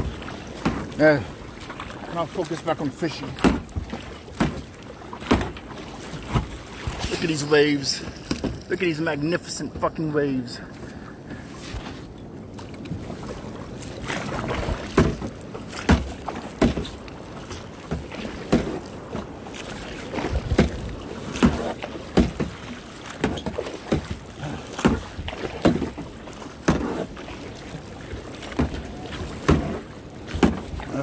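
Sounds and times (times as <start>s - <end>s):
kayak paddle splashing: 0.0s - 31.0s
water noise: 0.0s - 31.0s
wind: 0.0s - 31.0s.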